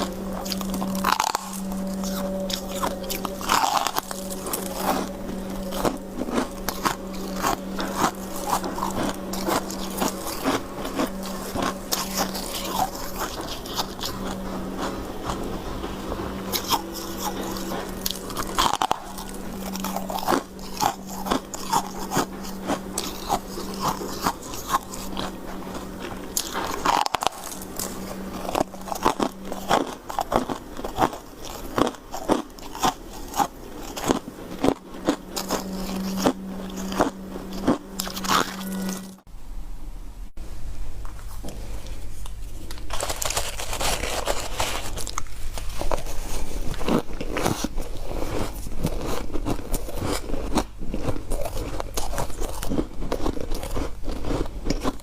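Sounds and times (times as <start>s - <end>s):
person crunching ice: 0.0s - 14.5s, 16.5s - 39.1s, 42.6s - 55.0s
low steady hum: 0.0s - 55.0s.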